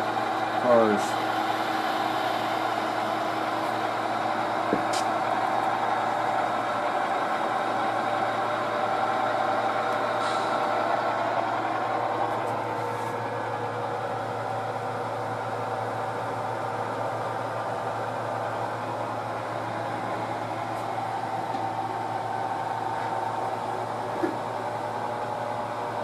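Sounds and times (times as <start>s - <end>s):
model locomotive diesel engine hum: 0.0s - 26.0s.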